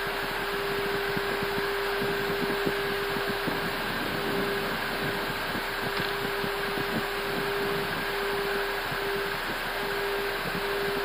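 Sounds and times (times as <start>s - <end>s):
constant hum: 0.0s - 11.0s
rush of air: 0.3s - 9.7s
uneven low rumble: 0.4s - 11.0s.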